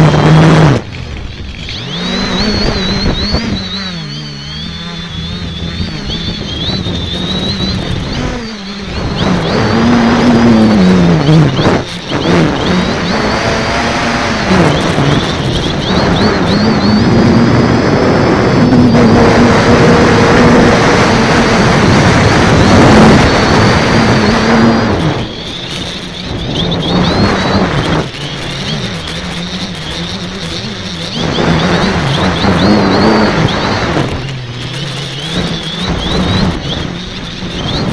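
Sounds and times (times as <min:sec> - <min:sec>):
drone motor whine: 0:00.0 - 0:37.9
propeller hum: 0:00.0 - 0:37.9
wind on microphone: 0:00.0 - 0:37.9.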